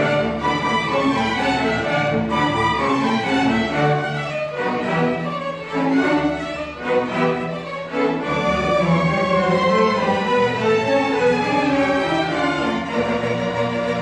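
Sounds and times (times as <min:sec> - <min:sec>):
string orchestra playing: 0:00.0 - 0:14.0.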